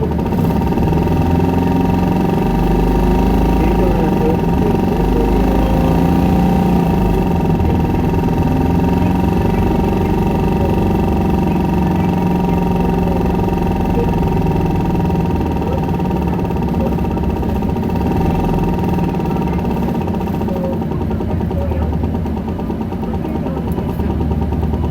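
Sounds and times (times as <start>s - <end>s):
bus diesel engine running: 0.0s - 24.9s
high whine tones: 0.0s - 24.9s.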